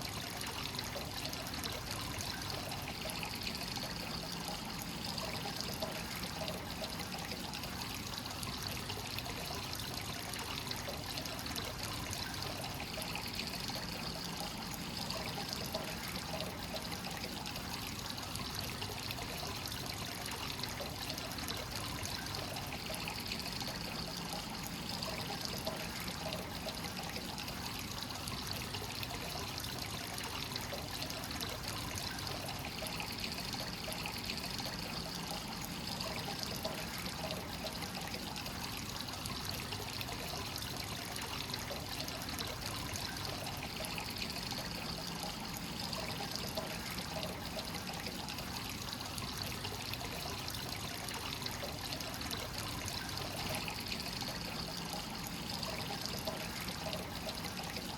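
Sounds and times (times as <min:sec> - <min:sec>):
water pouring into a bath: 0:00.0 - 0:57.9.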